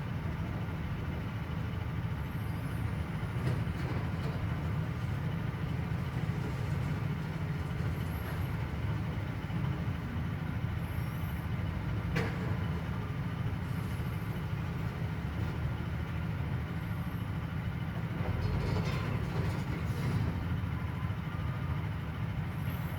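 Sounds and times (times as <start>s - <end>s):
low rumble of construction work: 0.0s - 22.9s.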